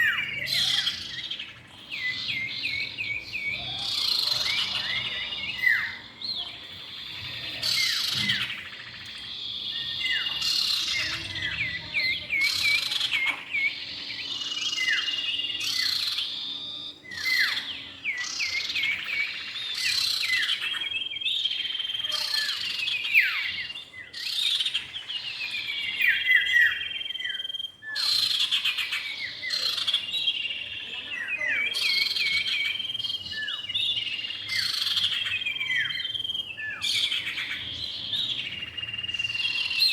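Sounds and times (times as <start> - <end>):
birds whistling calls: 0.0 - 39.9.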